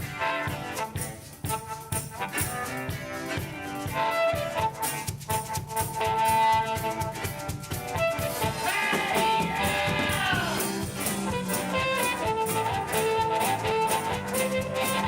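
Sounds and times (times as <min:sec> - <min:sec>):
live band playing: 0:00.0 - 0:15.0
sliding lead melody: 0:00.0 - 0:15.0.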